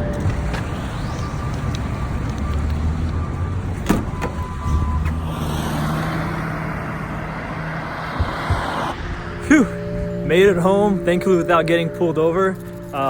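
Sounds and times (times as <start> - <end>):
tyre and road noise: 0.0 - 13.0
vehicle engine hum: 0.0 - 13.0.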